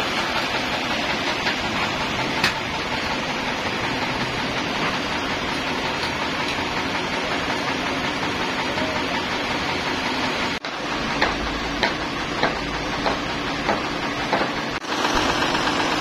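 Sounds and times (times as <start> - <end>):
sawmill machinery running: 0.0 - 16.0.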